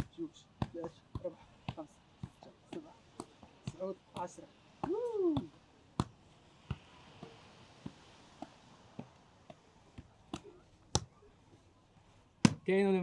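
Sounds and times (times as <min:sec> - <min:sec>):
foot tapping football: 0:00.0 - 0:11.2, 0:12.4 - 0:12.8.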